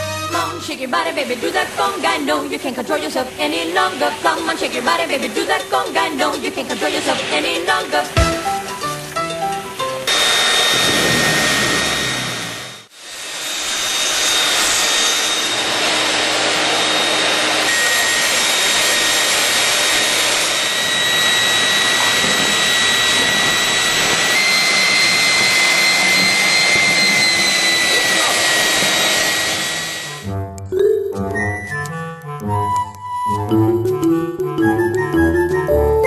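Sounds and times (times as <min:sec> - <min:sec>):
vacuum cleaner running: 0:01.0 - 0:30.3.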